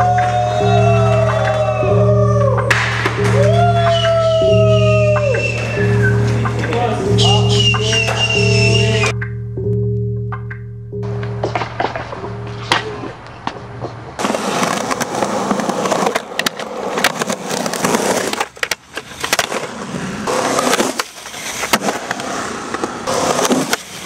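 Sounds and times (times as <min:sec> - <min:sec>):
skateboard clacks: 0:00.0 - 0:09.1, 0:11.2 - 0:24.0
skateboard wheels rolling on concrete: 0:00.0 - 0:09.1, 0:11.2 - 0:24.0.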